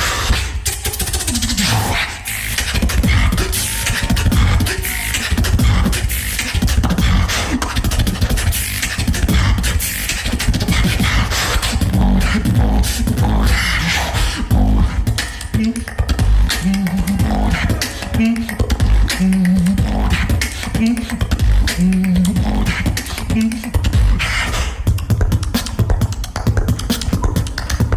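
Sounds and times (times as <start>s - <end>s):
beatboxing: 0.0s - 27.9s
deep bass: 0.0s - 27.9s.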